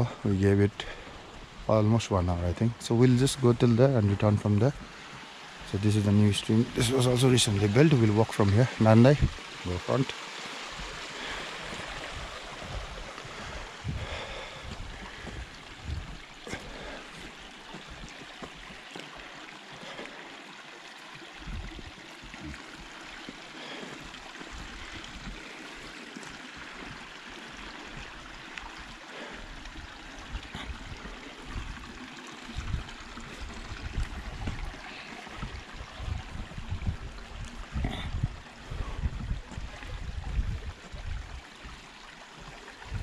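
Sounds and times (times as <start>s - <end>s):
stream flowing: 0.0s - 43.0s.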